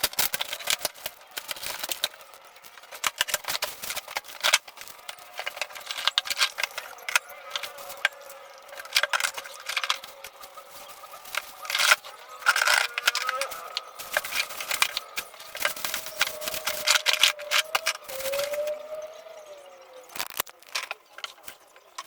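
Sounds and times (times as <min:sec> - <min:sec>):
packaging crinkling: 0:00.0 - 0:19.0, 0:20.1 - 0:21.7
sharp crackles: 0:00.0 - 0:22.0.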